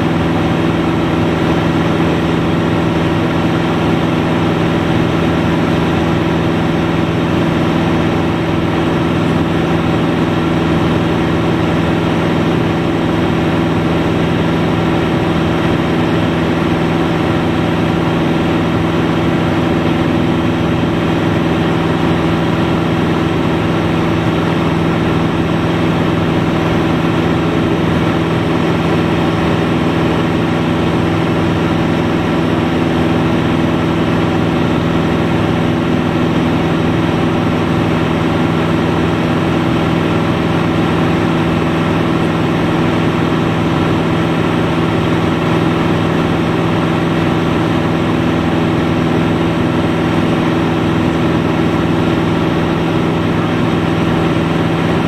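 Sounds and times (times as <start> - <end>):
light aircraft engine droning: 0.0 - 55.0.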